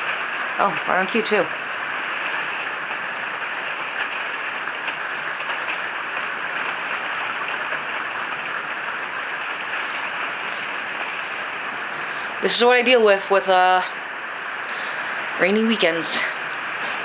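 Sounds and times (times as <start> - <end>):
hard rain hiss: 0.0 - 17.0.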